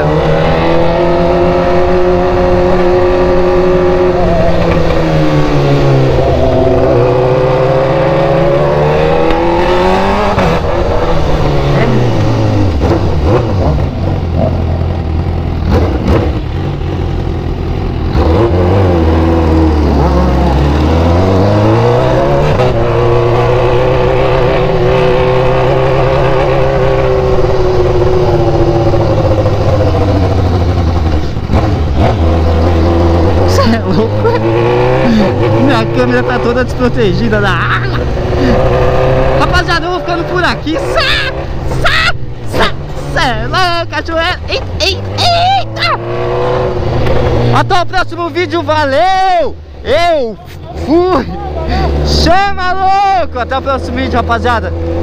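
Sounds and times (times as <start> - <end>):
car engine revving: 0.0 - 49.1, 50.6 - 55.0.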